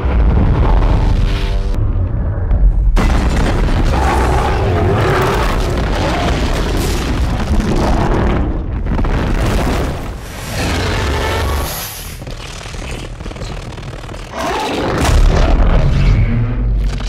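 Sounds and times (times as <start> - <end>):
deep rumble of blast and fire: 0.0 - 12.3, 13.1 - 17.0.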